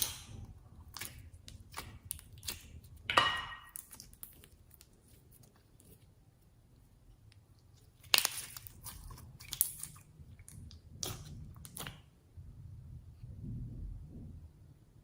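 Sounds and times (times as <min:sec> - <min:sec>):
slime handling: 0:00.0 - 0:12.2
slime crackling squishes: 0:00.0 - 0:12.3.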